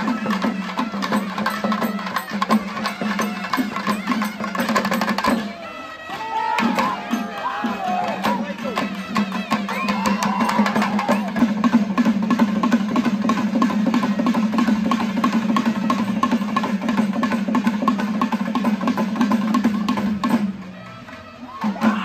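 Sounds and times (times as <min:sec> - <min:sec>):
fast drum strokes: 0:00.0 - 0:05.6, 0:06.6 - 0:20.8.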